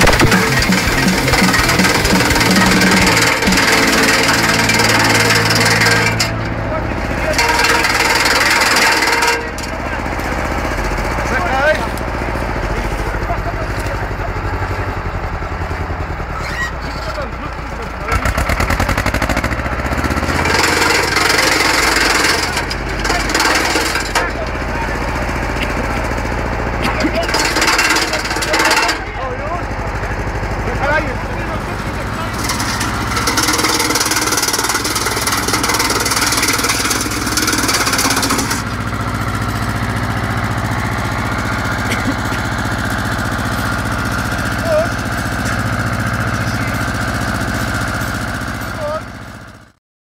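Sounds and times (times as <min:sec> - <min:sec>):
tractor engine hum: 0:00.0 - 0:49.8
wood chipper shredding branches: 0:00.0 - 0:49.8.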